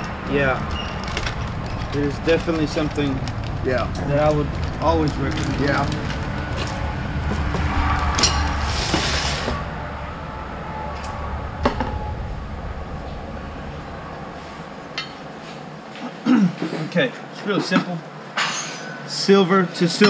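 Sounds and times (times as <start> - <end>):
low steady hum: 0.0 - 17.3.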